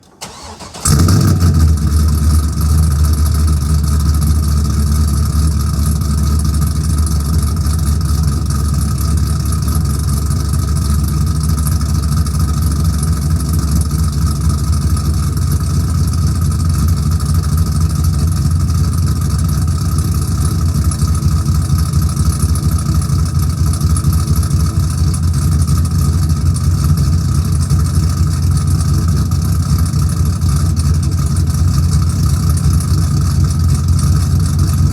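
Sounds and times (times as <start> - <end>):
car engine idling: 0.2 - 34.9.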